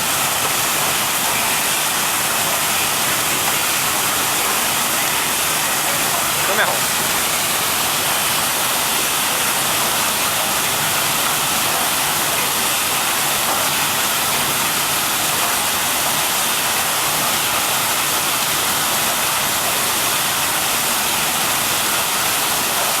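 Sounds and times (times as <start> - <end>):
vegetable washing machine hissing: 0.0 - 23.0.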